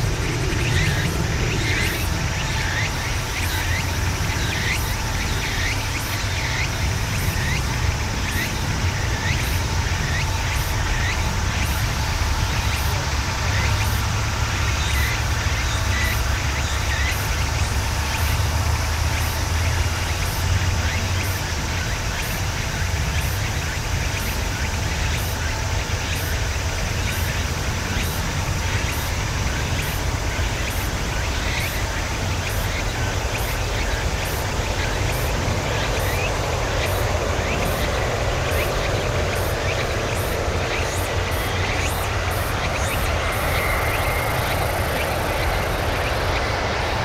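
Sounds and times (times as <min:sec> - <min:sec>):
distant jet airliner rumble: 0:00.0 - 0:47.0.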